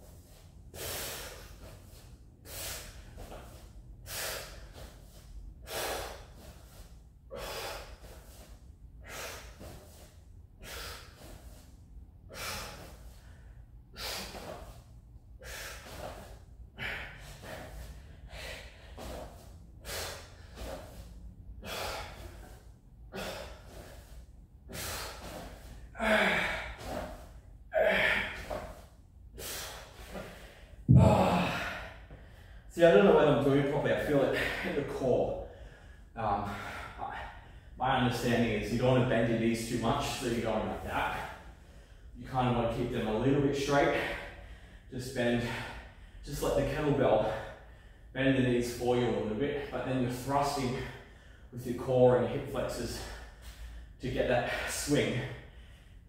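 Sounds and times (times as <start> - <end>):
man breathing hard: 0.0 - 33.2, 34.2 - 37.8, 41.0 - 42.2, 43.9 - 46.2, 47.2 - 48.1, 50.6 - 51.6, 52.8 - 56.0.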